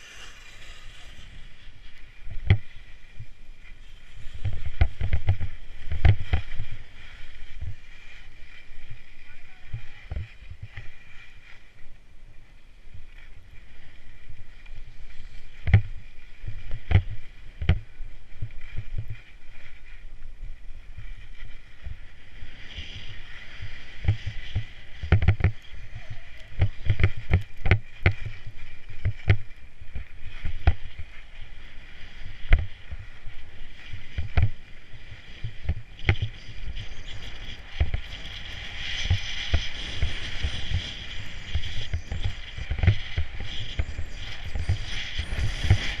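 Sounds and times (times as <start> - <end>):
skis hissing over packed snow: 0.0 - 46.0.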